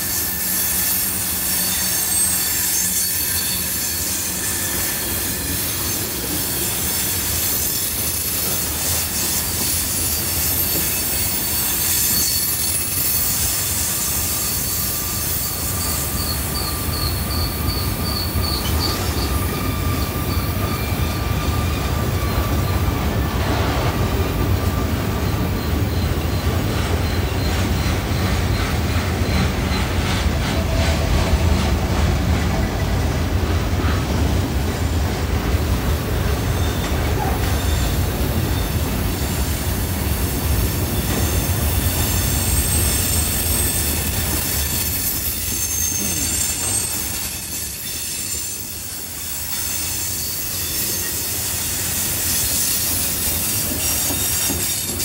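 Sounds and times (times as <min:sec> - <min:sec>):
rumble of train cars: 0:00.0 - 0:55.0
train wheels squealing: 0:00.0 - 0:55.0.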